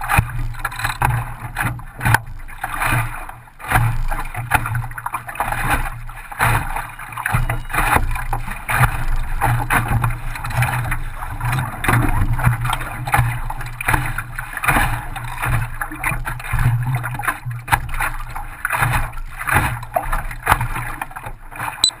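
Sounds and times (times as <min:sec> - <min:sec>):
water splashing against hull: 0:00.0 - 0:22.0.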